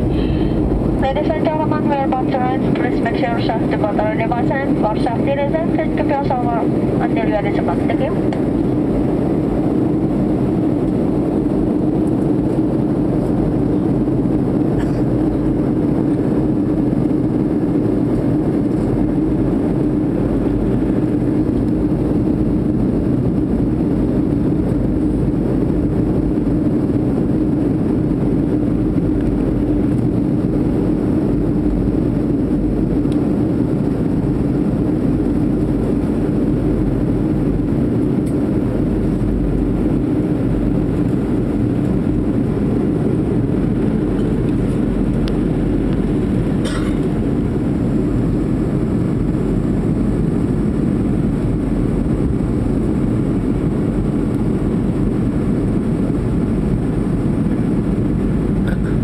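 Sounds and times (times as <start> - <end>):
airflow rushing in cabin: 0.0 - 59.0
constant low hum: 0.0 - 59.0
jet engine drone: 0.0 - 59.0.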